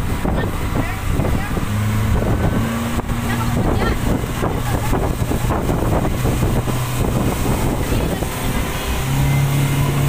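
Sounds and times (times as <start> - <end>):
speedboat engine running: 0.0 - 10.0
wind buffeting microphone: 0.0 - 10.0.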